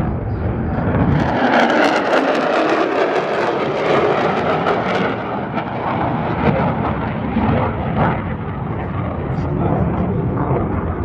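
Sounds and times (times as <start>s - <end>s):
jet engine rushing roar: 0.0s - 11.0s.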